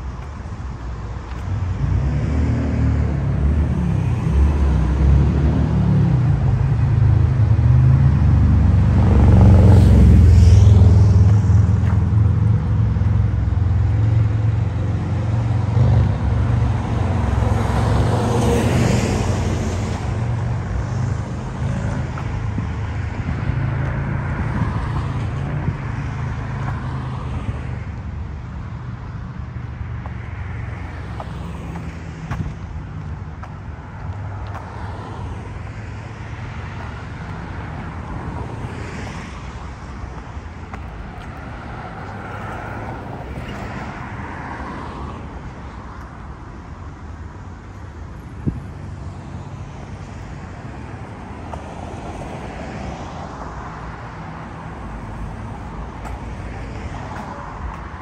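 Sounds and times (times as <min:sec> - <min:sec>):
cars passing: 0:00.0 - 0:58.0.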